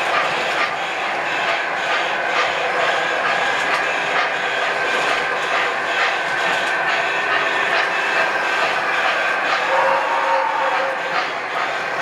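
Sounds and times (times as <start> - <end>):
model train rumbling: 0.0 - 12.0.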